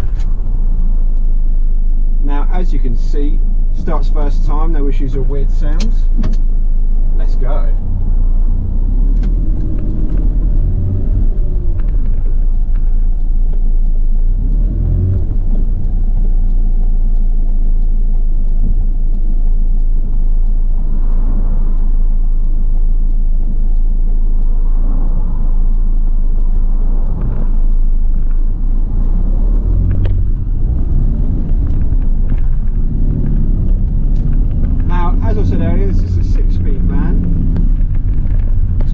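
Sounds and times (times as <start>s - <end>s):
low road rumble: 0.0s - 38.9s
van diesel engine accelerating: 0.0s - 38.9s.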